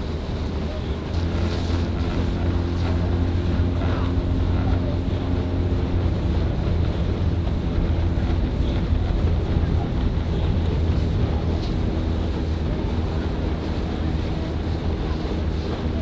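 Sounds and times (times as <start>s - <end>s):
outboard engine humming: 0.0s - 16.0s
wind buffeting microphone: 0.0s - 16.0s.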